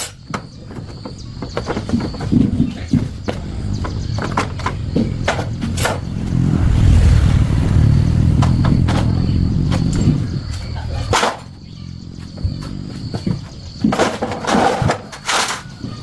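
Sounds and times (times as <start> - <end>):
motorcycle engine rumble: 1.2 - 14.7.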